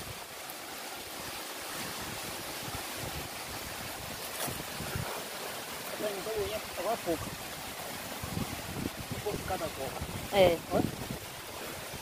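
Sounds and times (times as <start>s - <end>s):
wind on microphone: 1.7s - 5.4s, 6.0s - 12.0s.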